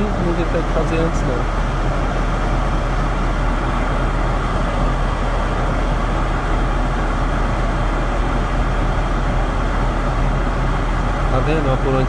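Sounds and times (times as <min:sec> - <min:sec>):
car running in heavy rain: 0:00.0 - 0:12.0.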